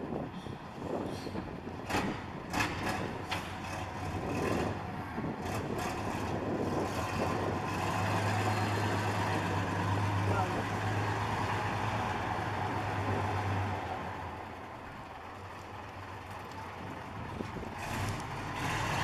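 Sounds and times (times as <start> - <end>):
diesel truck engine running: 0.1 - 19.0.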